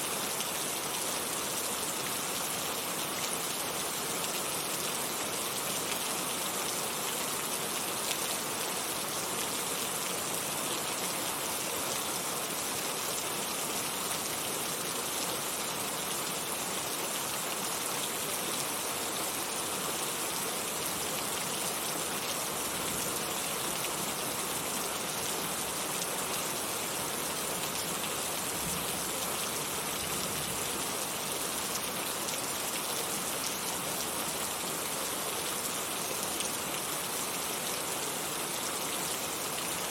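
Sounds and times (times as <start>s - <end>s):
heavy rain falling: 0.2s - 39.9s.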